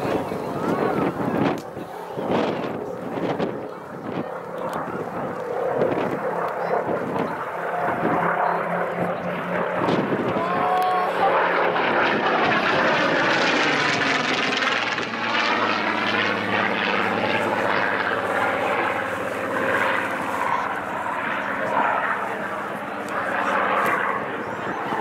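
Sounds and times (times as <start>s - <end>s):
aircraft engine passing: 0.0s - 25.0s.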